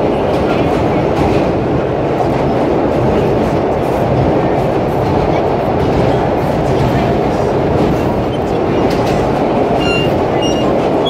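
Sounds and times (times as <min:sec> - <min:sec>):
subway car running through tunnel: 0:00.0 - 0:11.0
wheels clattering over rails: 0:00.0 - 0:11.0.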